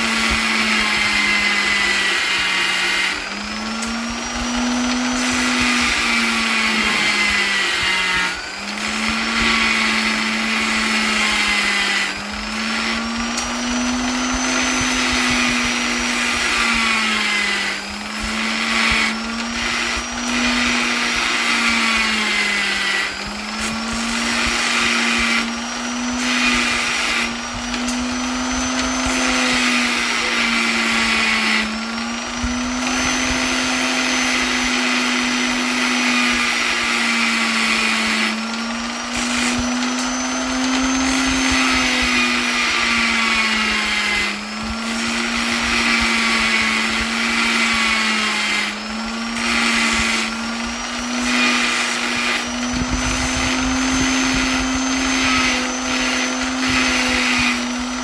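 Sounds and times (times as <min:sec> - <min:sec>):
electric polisher motor whirring: 0:00.0 - 0:58.0.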